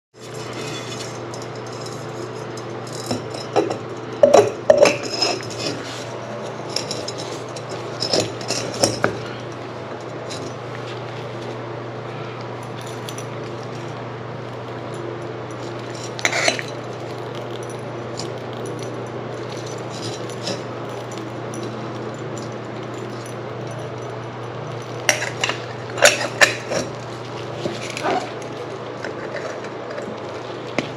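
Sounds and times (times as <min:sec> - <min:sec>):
steady low hum: 0:00.2 - 0:30.9.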